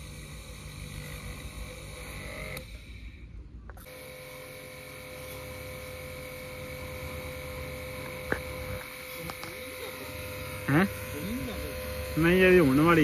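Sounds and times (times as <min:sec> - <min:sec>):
pressure washer motor humming: 0:00.0 - 0:13.0.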